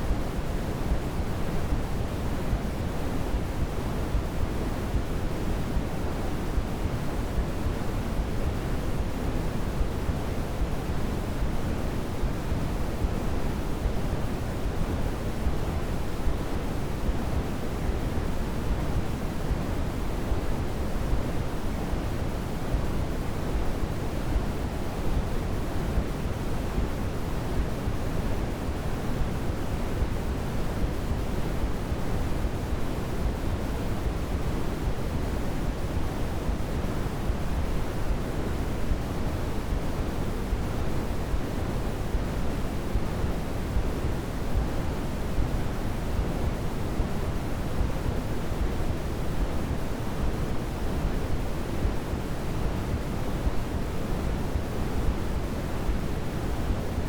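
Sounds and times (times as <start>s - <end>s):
low steady synthetic hiss: 0.0s - 57.0s.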